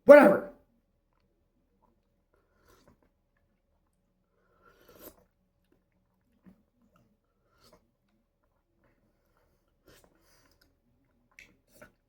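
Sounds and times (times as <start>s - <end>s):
soft chewing: 1.0s - 12.0s.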